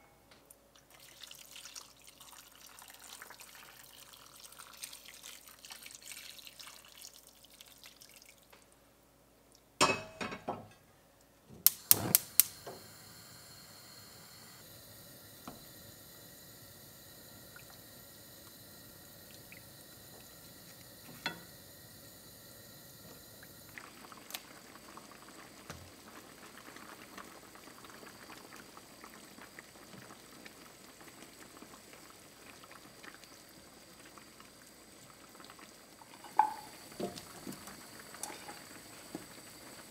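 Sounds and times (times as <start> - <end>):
stew simmering and bubbling: 0.7 - 8.9, 11.6 - 39.9
liquid pouring into pan: 0.8 - 8.6, 15.4 - 39.6.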